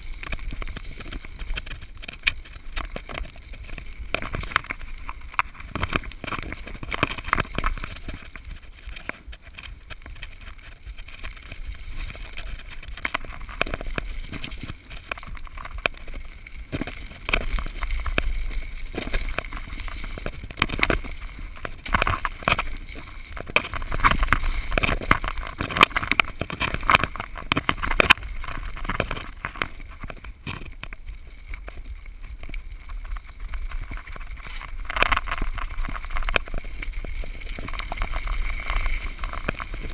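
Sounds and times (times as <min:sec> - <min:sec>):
bike rattling and knocking: 0:00.0 - 0:39.9
bike tyres on dirt and stones: 0:00.0 - 0:39.9
wind rumble on microphone: 0:00.0 - 0:39.9.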